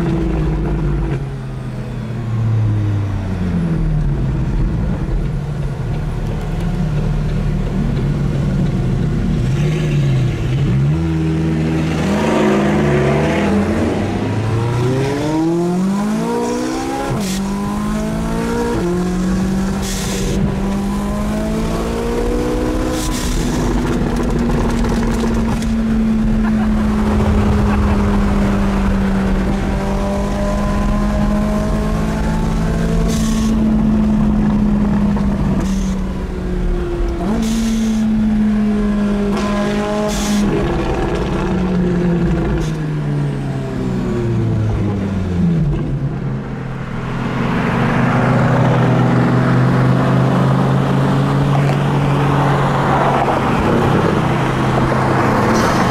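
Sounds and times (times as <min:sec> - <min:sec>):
sports car engine accelerating: 0:00.0 - 0:55.9.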